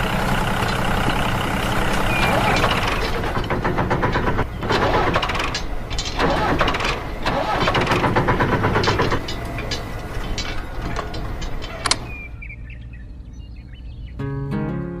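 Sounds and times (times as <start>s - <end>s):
small engine running: 0.0s - 12.2s.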